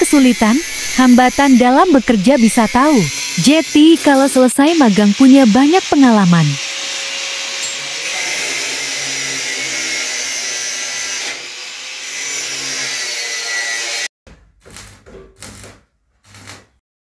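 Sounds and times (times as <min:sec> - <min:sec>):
power tool cutting steel: 0:00.0 - 0:14.1, 0:14.7 - 0:16.8.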